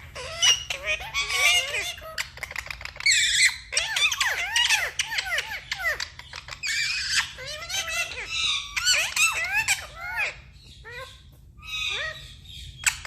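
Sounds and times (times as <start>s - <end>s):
parrots chattering and chirping: 0.0s - 13.0s.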